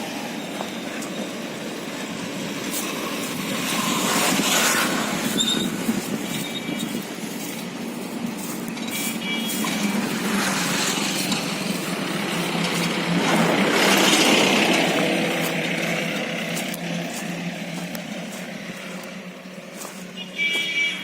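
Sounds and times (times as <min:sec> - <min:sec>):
rushing noise: 0:00.0 - 0:19.5
diesel engine humming: 0:00.0 - 0:21.0.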